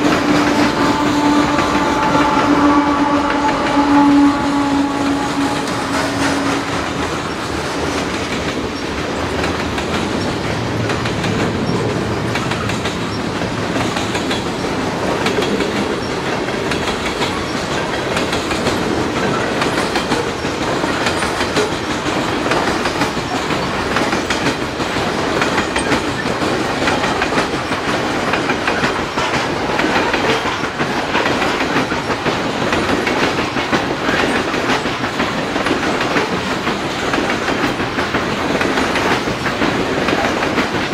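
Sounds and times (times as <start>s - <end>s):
freight train wheels rumbling: 0.0s - 40.9s
wheels clacking over track: 0.0s - 40.9s.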